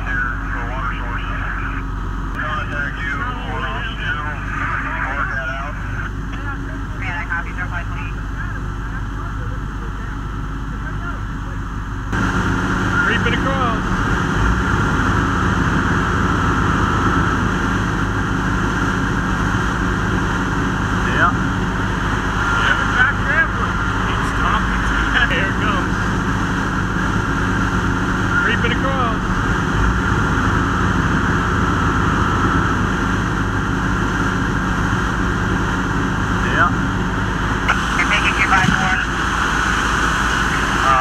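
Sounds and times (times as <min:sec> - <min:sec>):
diesel engine running: 0:00.0 - 0:41.0
thin steady whine: 0:00.0 - 0:41.0.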